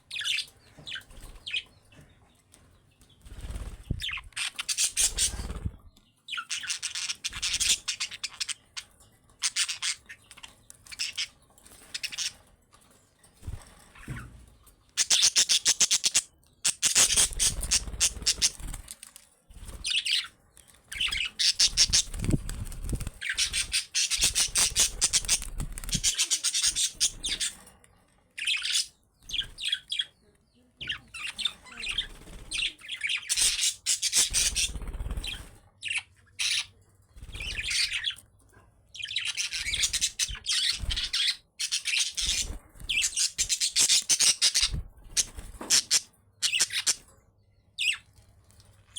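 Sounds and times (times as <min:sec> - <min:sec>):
budgerigars chattering and chirping: 0:00.0 - 0:02.0, 0:03.1 - 0:12.4, 0:13.5 - 0:18.9, 0:19.6 - 0:27.6, 0:28.4 - 0:30.2, 0:30.8 - 0:38.2, 0:39.0 - 0:47.1, 0:47.8 - 0:48.1.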